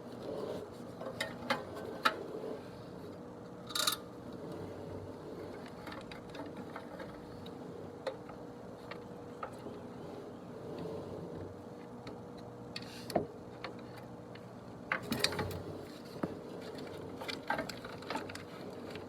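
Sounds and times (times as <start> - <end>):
steady faint hum: 0.0 - 19.0.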